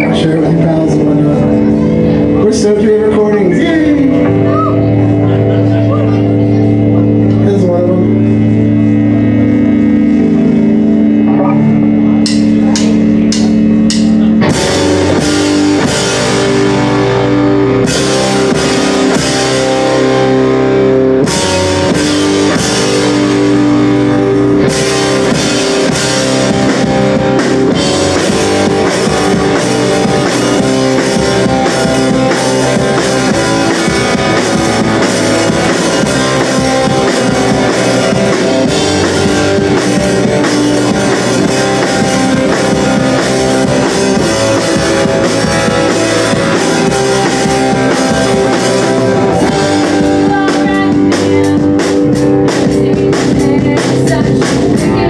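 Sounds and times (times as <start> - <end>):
rock band playing loud: 0.0 - 55.0.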